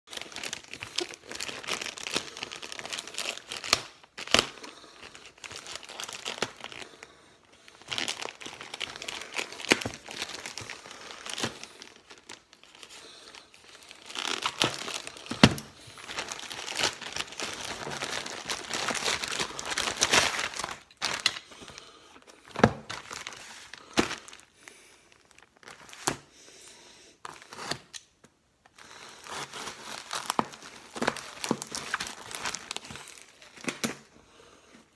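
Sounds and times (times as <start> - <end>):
plastic packaging crinkling: 0.1 - 26.2, 27.2 - 34.1.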